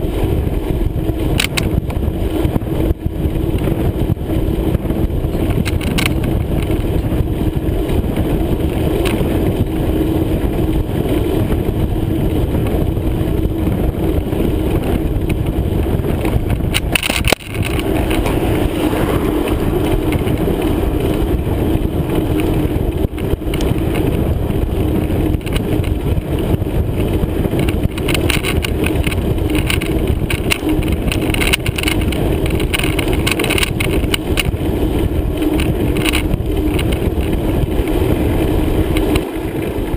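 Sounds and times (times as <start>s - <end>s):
bicycle riding rumble: 0.0s - 39.9s
wind noise: 0.0s - 39.9s.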